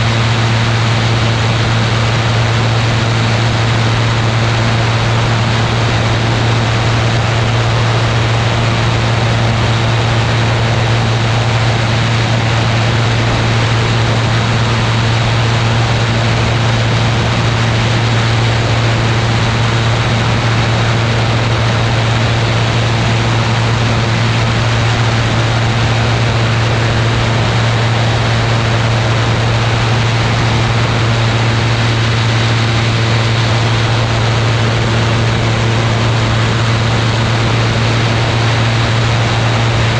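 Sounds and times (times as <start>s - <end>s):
aircraft engine and propeller hum: 0.0s - 39.9s.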